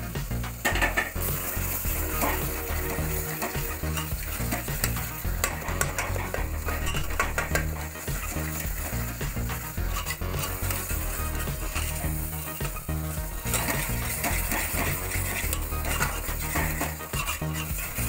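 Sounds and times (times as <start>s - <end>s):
gravy sizzling: 0.0s - 18.0s
metal spoon scraping a pot: 0.4s - 18.0s.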